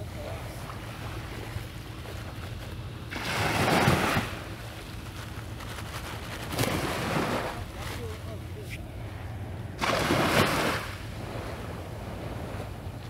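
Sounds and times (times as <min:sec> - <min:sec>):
small waves washing ashore: 0:00.0 - 0:13.0
steady low hum: 0:00.0 - 0:13.0.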